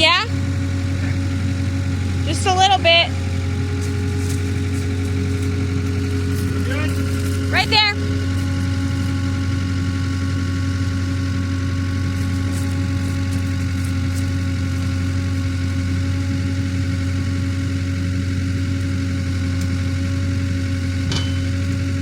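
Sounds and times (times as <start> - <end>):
loader engine idling: 0.0 - 22.0.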